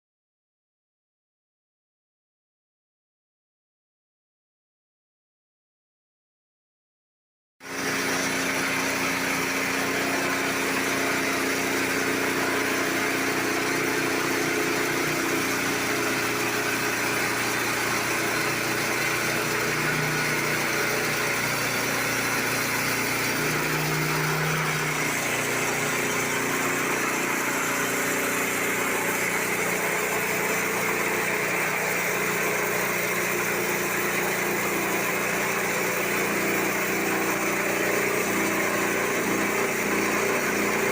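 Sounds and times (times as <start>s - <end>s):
small engine running: 7.6s - 40.9s.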